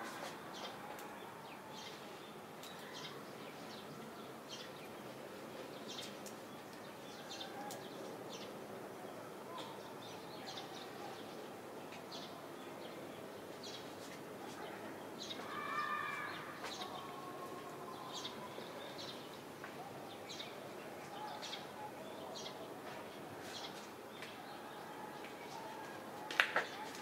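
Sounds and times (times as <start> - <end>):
steady outdoor hiss: 0.0 - 27.0
small birds chirping: 0.5 - 8.6, 9.5 - 24.7.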